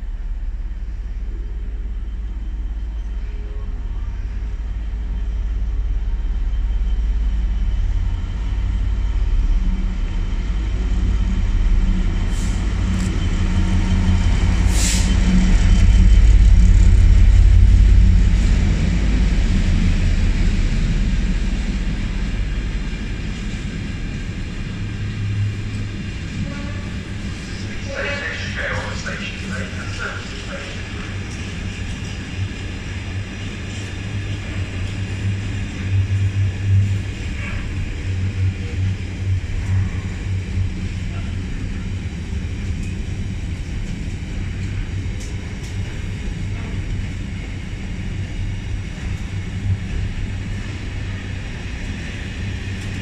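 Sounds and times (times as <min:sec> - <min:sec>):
diesel locomotive rumbling: 0:00.0 - 0:53.0.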